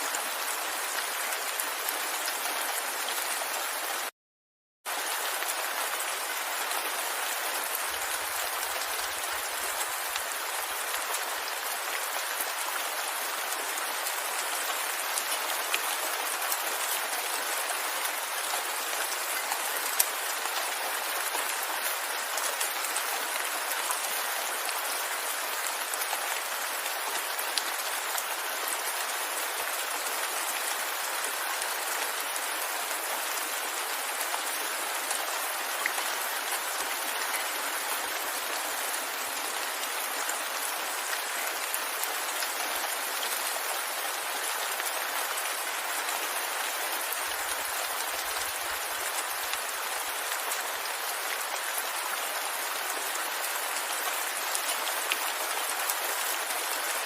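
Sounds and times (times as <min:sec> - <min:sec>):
steady rain falling: 0:00.0 - 0:04.1, 0:04.9 - 0:57.0.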